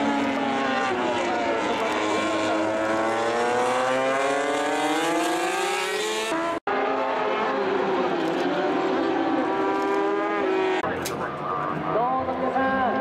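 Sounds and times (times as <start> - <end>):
racing motorcycle engine revving: 0.0 - 11.0.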